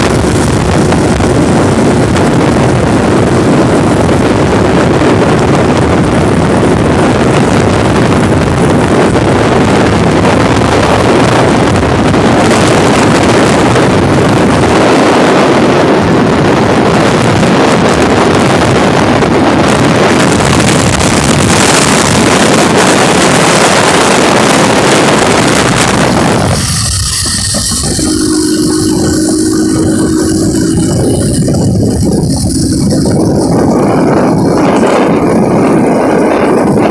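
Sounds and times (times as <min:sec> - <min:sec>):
wind on microphone: 0:00.0 - 0:36.9.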